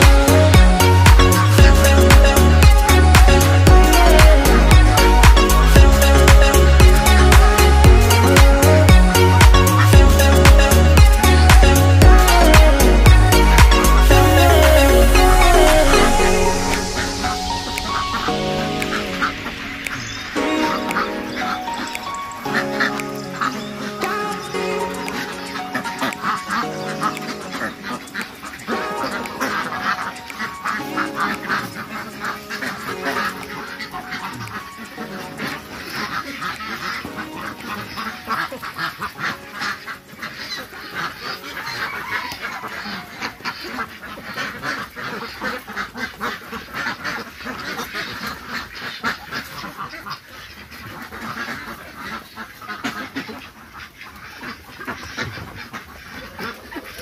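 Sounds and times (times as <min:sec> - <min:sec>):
ducks quacking: 0:00.0 - 0:57.0.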